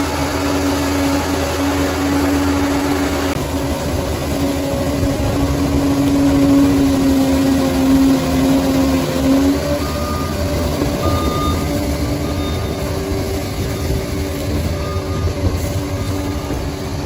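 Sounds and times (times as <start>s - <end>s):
bulldozer engine droning: 0.0s - 17.0s.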